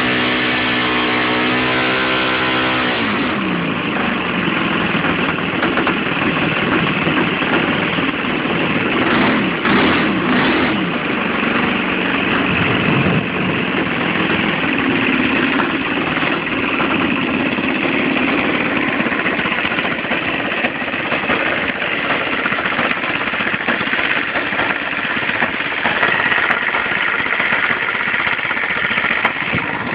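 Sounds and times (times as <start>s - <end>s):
model aircraft engine running: 0.0s - 29.9s.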